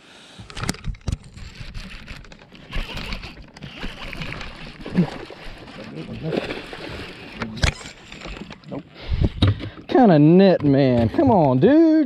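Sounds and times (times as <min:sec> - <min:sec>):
water splashing: 0:01.6 - 0:11.8.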